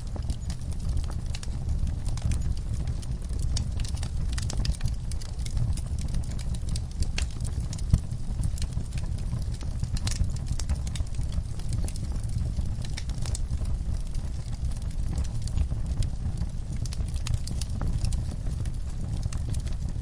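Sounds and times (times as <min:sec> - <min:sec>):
low rumble of flames: 0:00.0 - 0:20.0
wood fire pops and snaps: 0:00.0 - 0:20.0.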